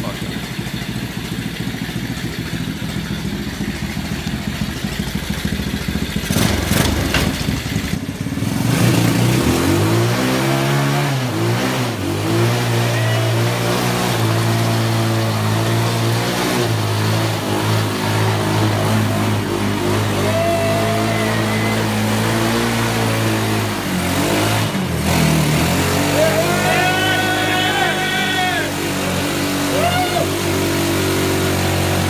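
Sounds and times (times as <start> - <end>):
small engine idling and revving: 0.0 - 32.0.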